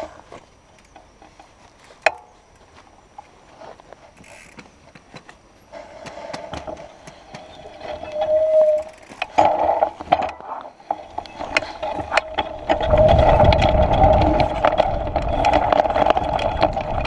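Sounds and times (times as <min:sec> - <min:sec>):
bike rattling: 0:00.0 - 0:17.0
bike tyre crunching over gravel: 0:00.0 - 0:17.0.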